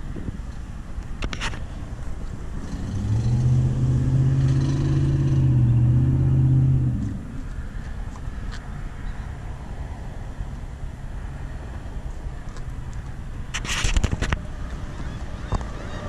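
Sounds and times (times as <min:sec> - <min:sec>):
vehicle engine hum passing: 0:00.5 - 0:16.0.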